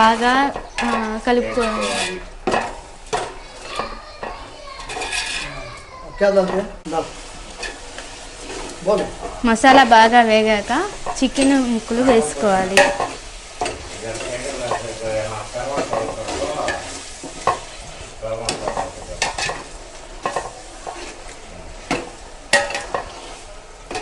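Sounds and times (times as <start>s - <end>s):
chicken sizzling in a pan: 0.0s - 24.0s
spoon scraping a pan: 0.0s - 24.0s.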